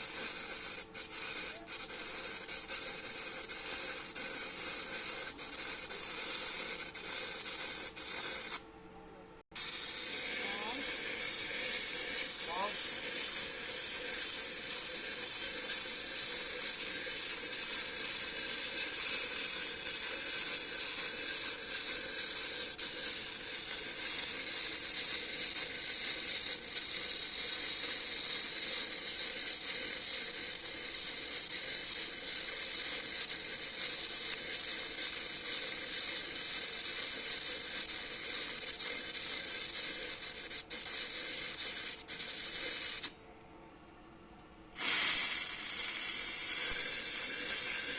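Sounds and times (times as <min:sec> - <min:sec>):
welding arc sizzling: 0:00.0 - 0:08.7, 0:09.5 - 0:43.2, 0:44.7 - 0:47.9.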